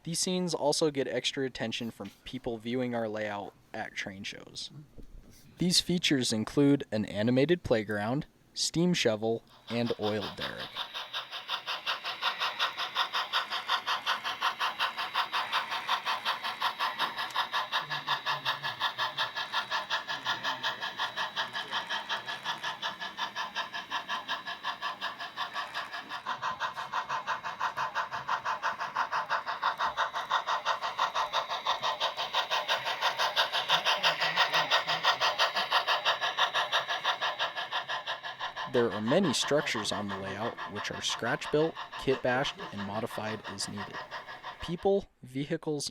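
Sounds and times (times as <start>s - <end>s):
model steam locomotive chuffing: 0.0s - 4.6s, 5.6s - 45.6s.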